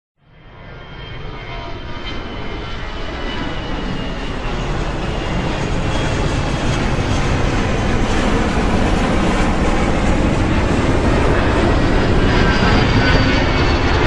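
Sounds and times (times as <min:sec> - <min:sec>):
airplane engine rumble: 0:00.3 - 0:14.0.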